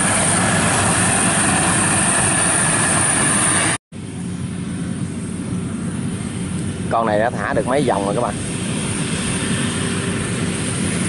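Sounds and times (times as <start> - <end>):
combine harvester running: 0.0 - 11.0
distant combine harvester running: 0.0 - 11.0.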